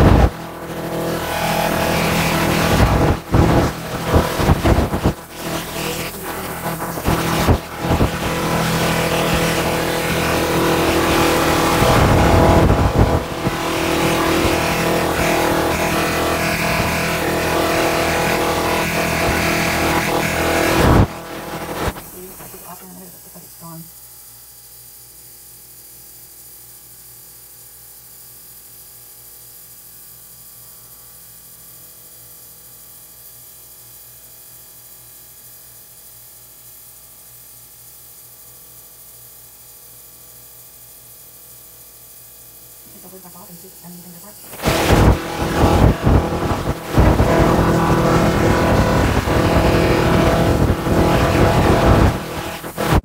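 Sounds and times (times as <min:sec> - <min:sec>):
ultrasonic cleaner buzzing: 0:00.0 - 0:53.0.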